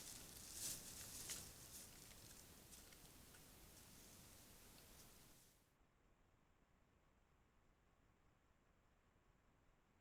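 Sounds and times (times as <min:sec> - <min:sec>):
faint microphone hiss: 0:00.0 - 0:10.0.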